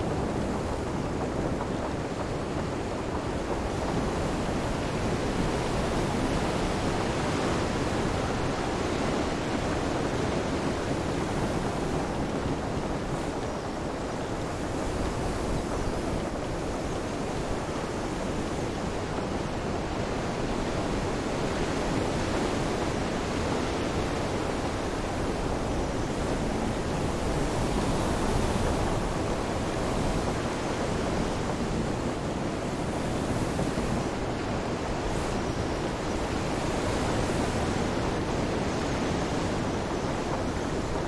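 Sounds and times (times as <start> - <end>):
rain: 0.0 - 41.0
wind: 0.0 - 41.0.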